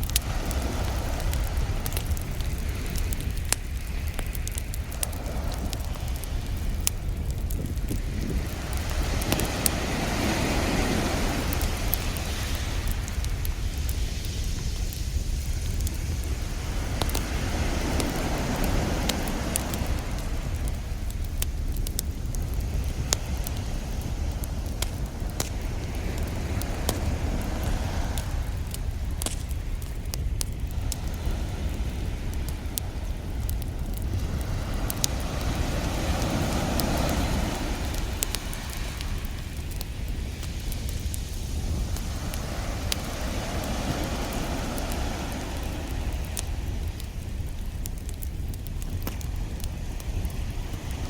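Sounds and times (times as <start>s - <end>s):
wave washing in: 0.0s - 48.0s, 48.9s - 51.0s
campfire crackling and popping: 0.0s - 51.0s
ocean surf rumbling: 0.0s - 51.0s.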